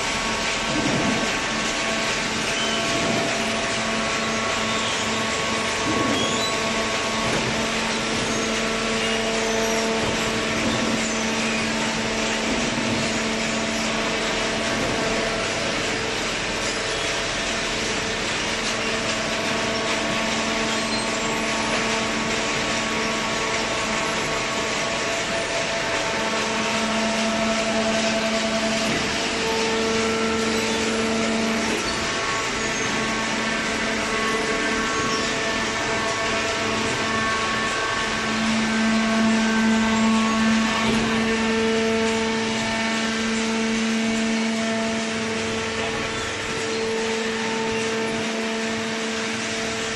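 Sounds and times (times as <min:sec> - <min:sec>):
baling machine drone: 0:00.0 - 0:49.9
motor hum: 0:00.0 - 0:49.9.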